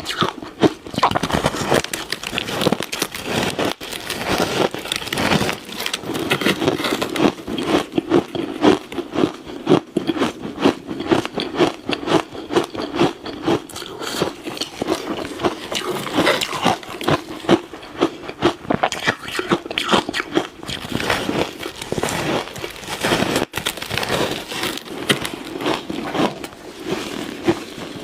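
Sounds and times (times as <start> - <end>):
ice crunched between teeth: 0.0 - 28.0.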